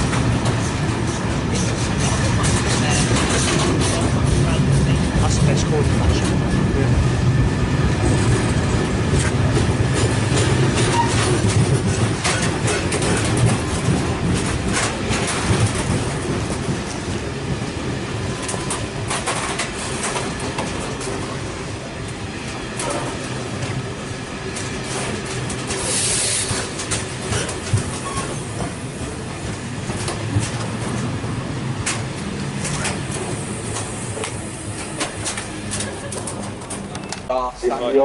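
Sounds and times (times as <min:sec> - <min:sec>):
freight train wheels clattering: 0:00.0 - 0:37.3
train rumble: 0:00.0 - 0:38.0.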